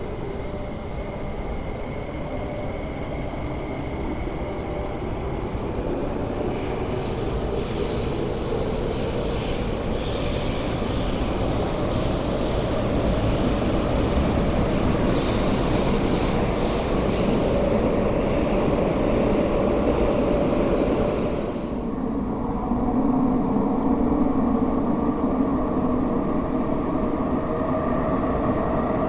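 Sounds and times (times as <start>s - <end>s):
electric train accelerating: 0.0s - 29.0s.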